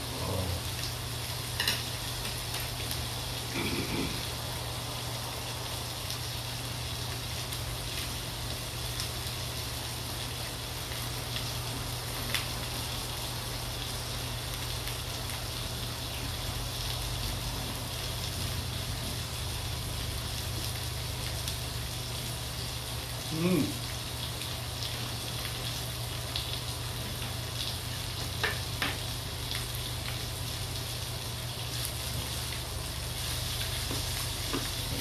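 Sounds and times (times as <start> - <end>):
skewers sizzling on a grill pan: 0.0 - 35.0.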